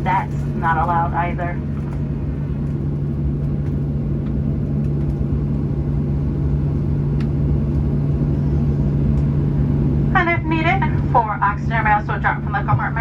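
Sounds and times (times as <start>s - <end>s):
aircraft cabin droning hum: 0.0s - 13.0s.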